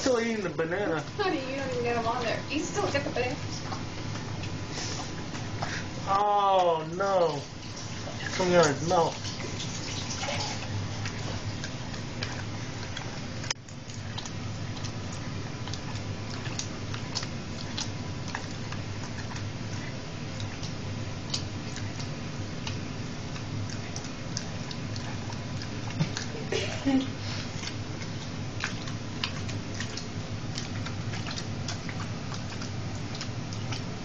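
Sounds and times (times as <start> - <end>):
dog licking and smacking mouth: 0.0 - 5.8, 6.5 - 34.0.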